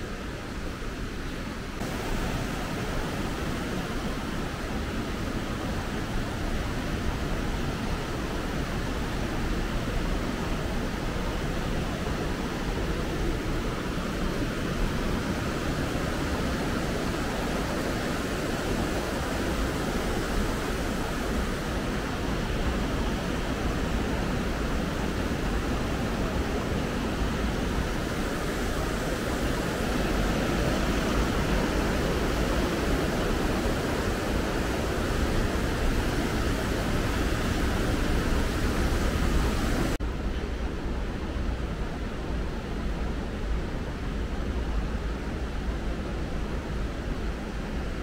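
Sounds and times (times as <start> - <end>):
stream rushing over rocks: 0.1 - 40.0.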